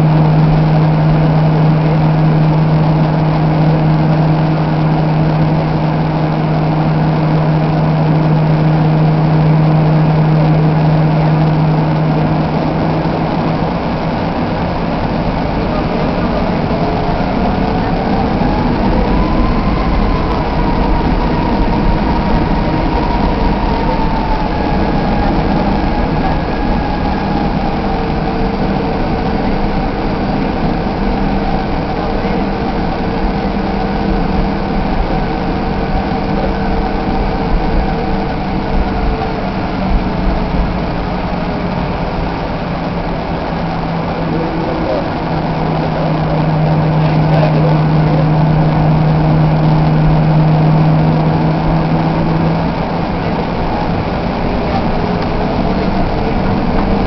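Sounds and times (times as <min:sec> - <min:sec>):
jet engine rumble and hum: 0:00.0 - 0:57.0
turbine whine: 0:00.0 - 0:57.0.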